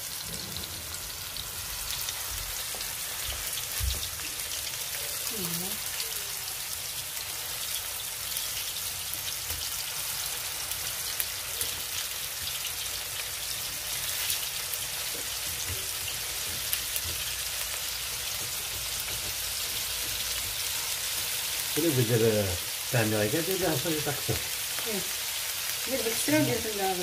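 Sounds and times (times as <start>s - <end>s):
meat patties sizzling in oil: 0.0s - 27.0s.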